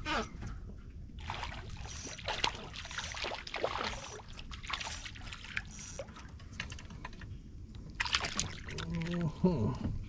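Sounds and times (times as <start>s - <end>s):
water splashing and trickling: 1.1s - 9.5s.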